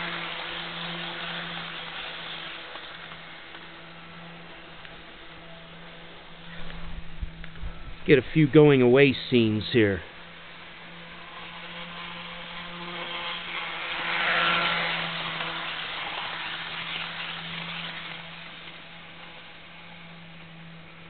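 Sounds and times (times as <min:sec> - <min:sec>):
model train motor and wheels whirring: 0:00.0 - 0:21.0
steady hum: 0:00.0 - 0:21.0.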